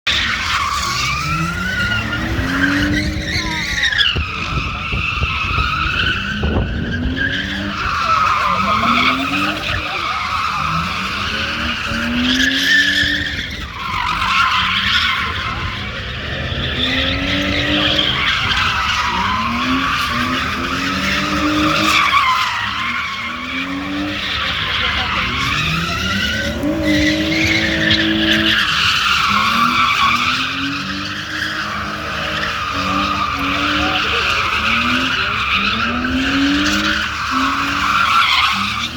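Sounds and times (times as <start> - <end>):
car engine revving: 0.1 - 38.9
tyres squealing: 0.1 - 38.9.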